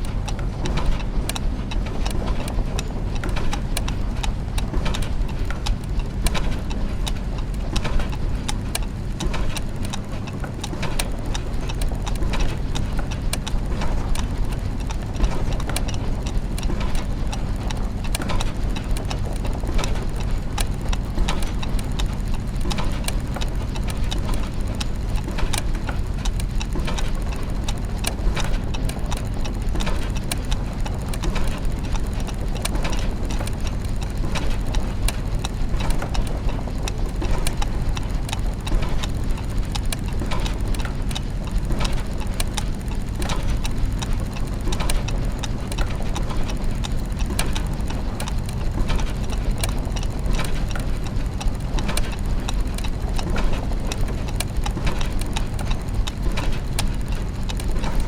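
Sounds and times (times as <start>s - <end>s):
clockwork gears ticking and clicking: 0.0s - 58.0s
low machine hum: 0.0s - 58.0s.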